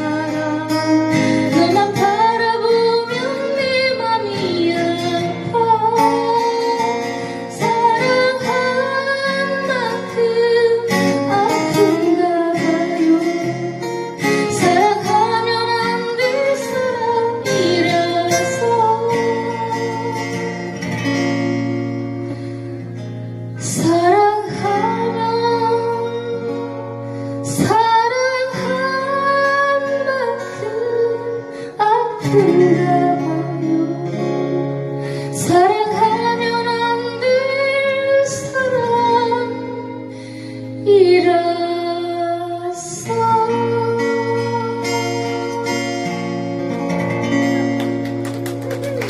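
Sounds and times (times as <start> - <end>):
woman singing: 0.0 - 21.8, 23.6 - 46.6
acoustic guitars: 0.0 - 49.0.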